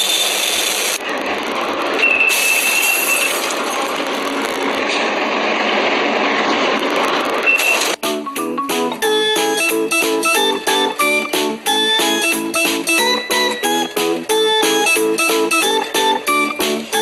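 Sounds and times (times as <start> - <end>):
rail cars rumbling: 0.0 - 17.0.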